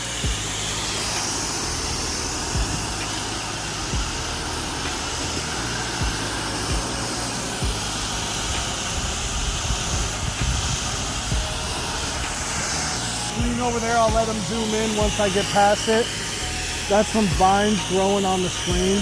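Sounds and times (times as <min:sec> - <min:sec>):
high-pressure water spray hiss: 0:00.0 - 0:19.0
pressure washer motor drone: 0:00.0 - 0:19.0.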